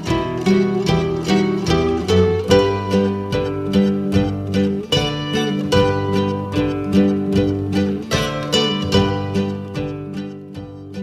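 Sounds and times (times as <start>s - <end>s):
plucked string instrument music: 0.0s - 11.0s.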